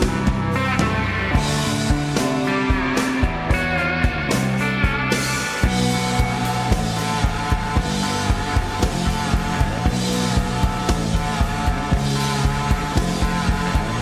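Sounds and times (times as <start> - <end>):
bass guitar: 0.0 - 14.0
steady drum beat: 0.0 - 14.0
sustained electric guitars: 0.0 - 14.0.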